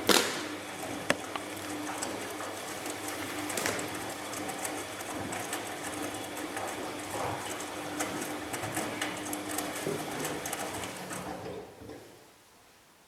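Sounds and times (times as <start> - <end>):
washing machine motor hum: 0.0 - 12.4.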